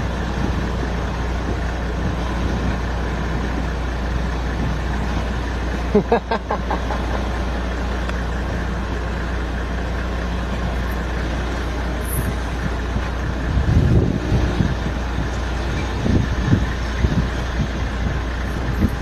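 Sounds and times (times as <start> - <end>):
low thumps and rumbles: 0.0 - 19.0
vehicle engine idling: 0.0 - 19.0.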